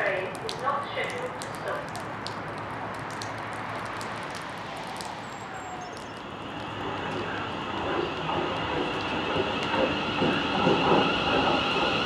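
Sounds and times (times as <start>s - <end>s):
drops splashing with sharp ticks: 0.0s - 9.8s
steady rain falling: 0.0s - 9.8s.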